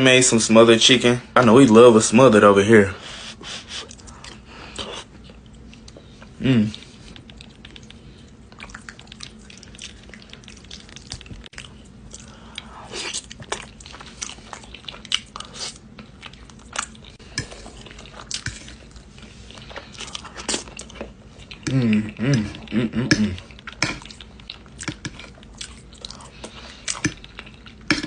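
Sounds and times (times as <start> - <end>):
person chewing food: 3.6 - 28.0.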